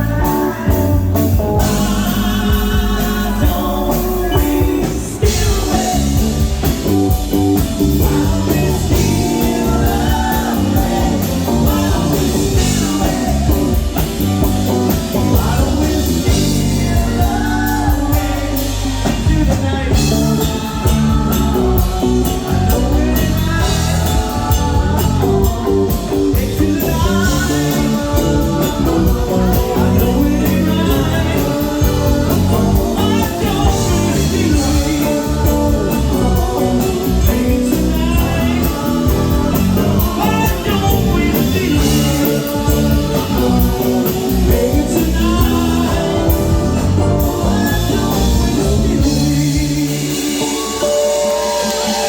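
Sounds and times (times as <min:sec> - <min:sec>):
live soft rock band: 0:00.0 - 0:52.0
person singing: 0:00.0 - 0:52.0.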